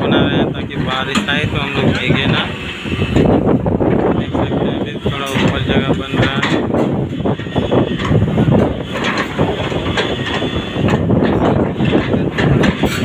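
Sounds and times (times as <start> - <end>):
diesel excavator engine: 0.0 - 13.0.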